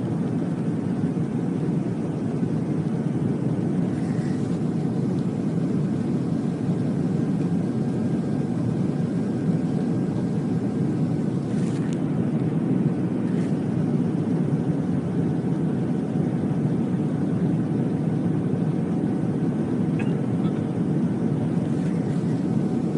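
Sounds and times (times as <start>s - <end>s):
airliner cabin engine roar: 0.0s - 22.9s.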